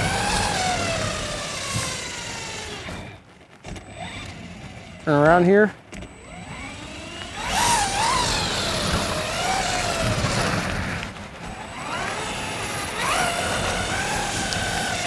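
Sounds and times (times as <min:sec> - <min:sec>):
rc truck motor whining: 0:00.0 - 0:15.0.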